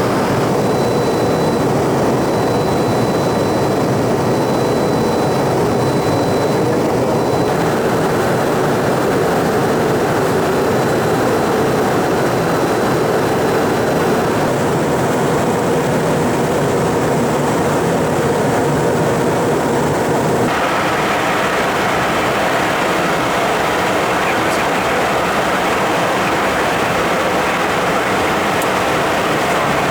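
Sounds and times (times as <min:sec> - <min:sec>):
jet engine noise: 0:00.0 - 0:29.9.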